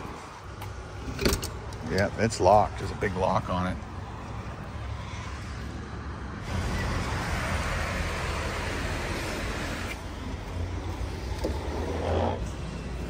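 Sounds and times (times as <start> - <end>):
traffic on wet road: 0.0 - 13.0.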